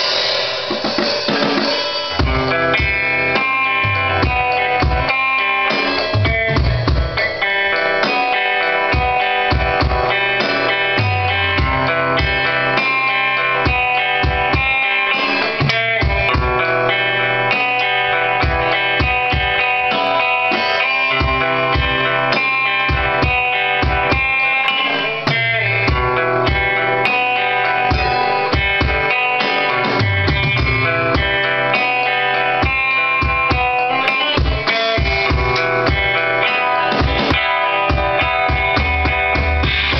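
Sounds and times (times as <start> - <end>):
drum kit steady beat: 0.0 - 39.9
guitar sustained notes: 1.6 - 39.9.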